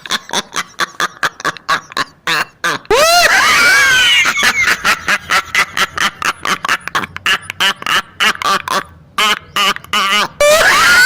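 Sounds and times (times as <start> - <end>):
laughing sound effect: 0.0 - 9.3, 10.0 - 11.0.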